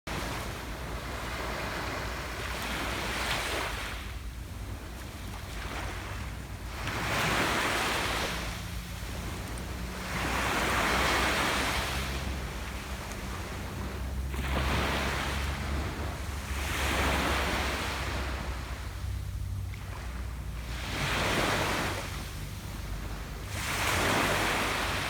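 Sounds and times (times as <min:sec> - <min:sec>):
low rumble of the sea: 0:00.1 - 0:25.0
ocean waves breaking on a beach: 0:00.1 - 0:25.0.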